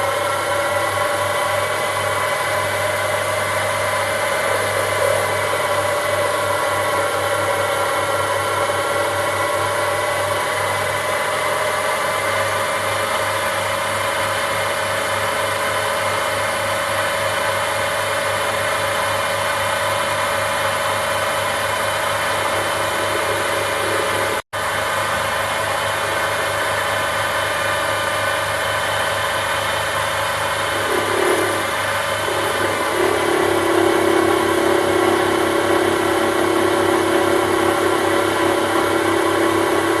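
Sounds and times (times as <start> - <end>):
lathe motor whine: 0.0 - 40.0.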